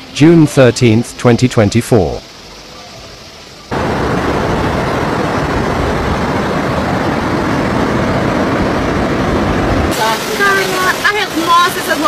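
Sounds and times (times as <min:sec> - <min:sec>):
rushing floodwater: 0:00.0 - 0:12.0.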